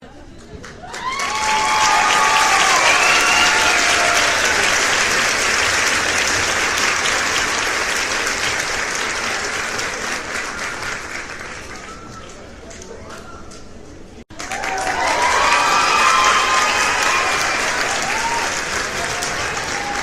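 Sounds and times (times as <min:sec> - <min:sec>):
audience applauding: 0:00.6 - 0:12.5, 0:14.3 - 0:20.0.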